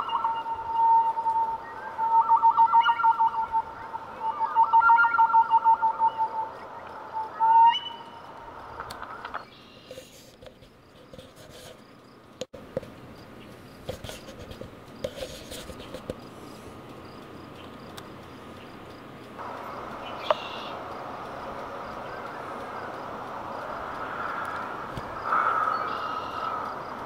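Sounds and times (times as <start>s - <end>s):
insect chirping: 0.0s - 11.2s, 13.1s - 27.0s
scattered clicks: 0.0s - 27.0s.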